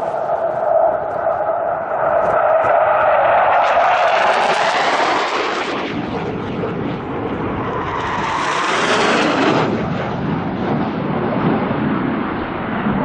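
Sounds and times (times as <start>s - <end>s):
low-flying jet roar: 0.0s - 13.0s.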